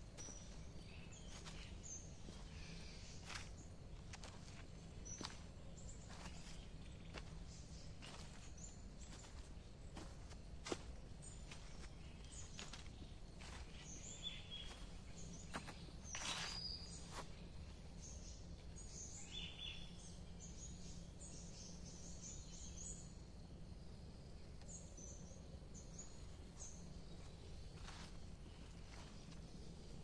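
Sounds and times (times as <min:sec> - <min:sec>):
birds chirping: 0:00.0 - 0:23.0, 0:24.6 - 0:30.0.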